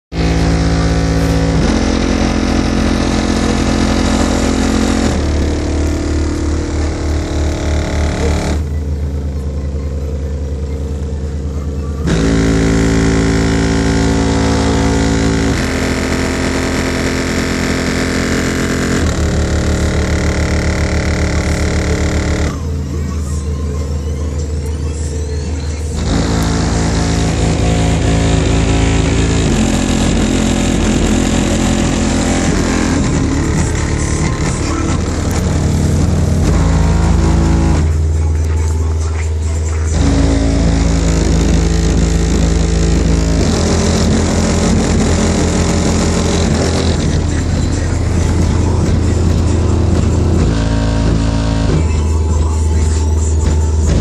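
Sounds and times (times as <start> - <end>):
bass-heavy music from car stereo: 0.0 - 54.0.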